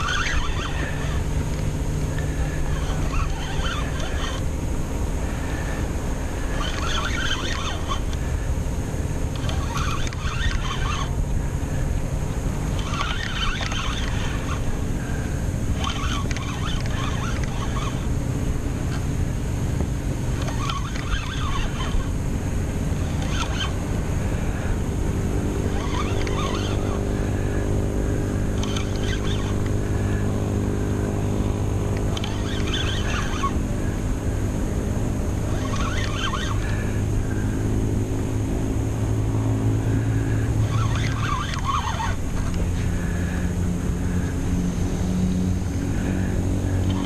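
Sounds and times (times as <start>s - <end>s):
boat engine hum: 0.0s - 47.0s
wind and water rumble: 0.0s - 47.0s.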